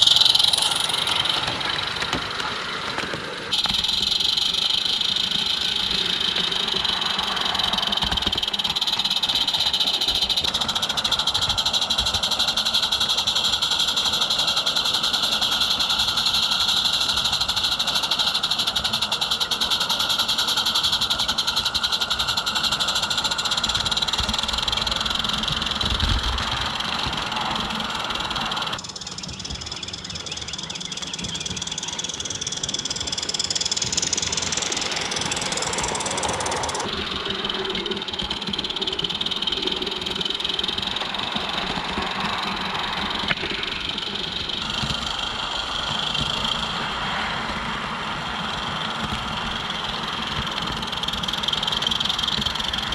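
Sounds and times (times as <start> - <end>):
small steam locomotive running: 0.0 - 52.9.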